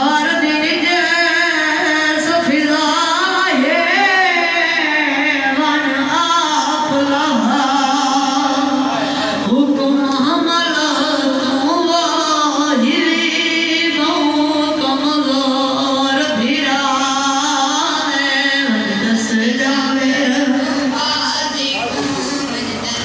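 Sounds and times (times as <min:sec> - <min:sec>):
person singing a mourning lament: 0:00.0 - 0:23.0.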